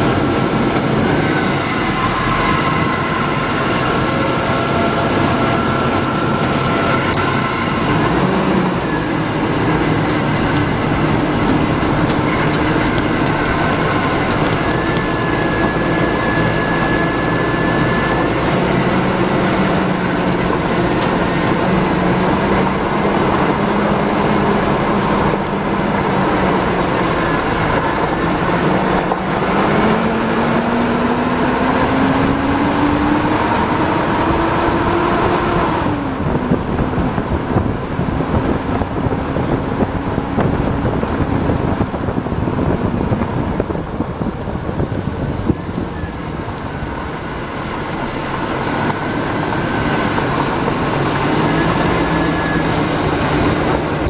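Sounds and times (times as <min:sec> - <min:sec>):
truck engine exhaust drone: 0:00.0 - 0:54.0.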